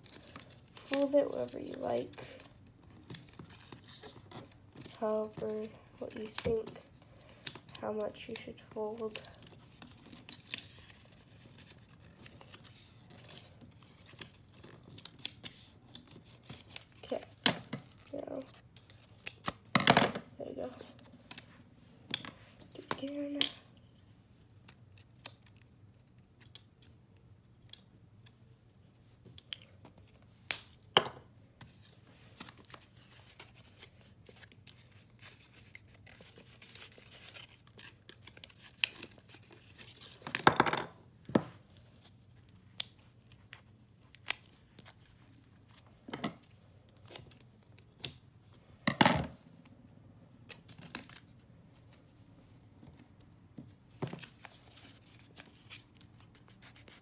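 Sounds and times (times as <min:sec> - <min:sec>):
paper being folded and handled: 0:00.0 - 0:19.7, 0:20.4 - 0:30.8, 0:31.6 - 0:40.4, 0:41.5 - 0:48.8, 0:50.4 - 0:57.0.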